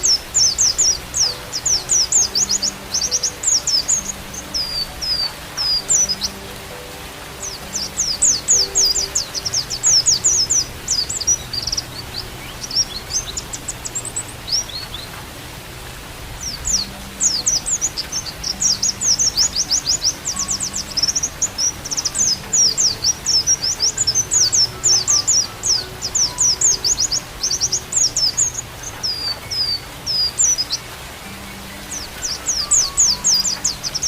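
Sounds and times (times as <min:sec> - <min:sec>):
bird singing rapid high chirps: 0:00.0 - 0:15.1, 0:16.4 - 0:34.0
soft hiss: 0:00.0 - 0:34.0.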